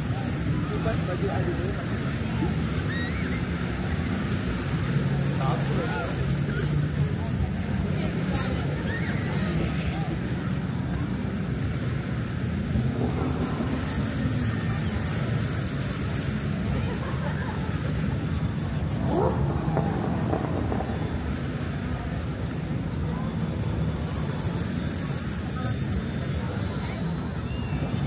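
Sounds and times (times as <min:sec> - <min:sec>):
surf washing: 0:00.0 - 0:28.0
wind on microphone: 0:00.0 - 0:28.0.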